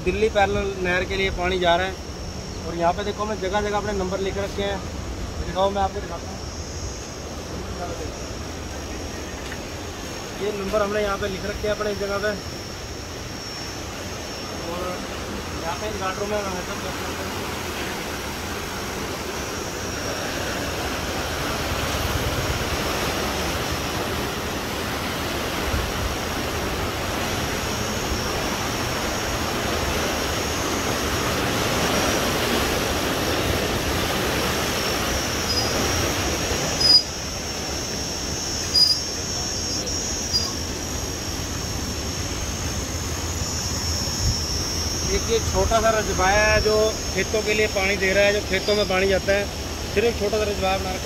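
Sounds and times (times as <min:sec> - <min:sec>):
water rushing through gates: 0:07.1 - 0:51.0.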